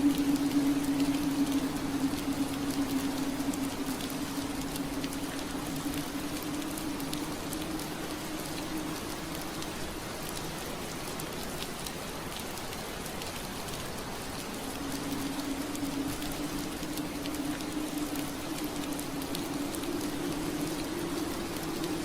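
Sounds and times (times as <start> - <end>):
rain on window pane: 0.0 - 22.0.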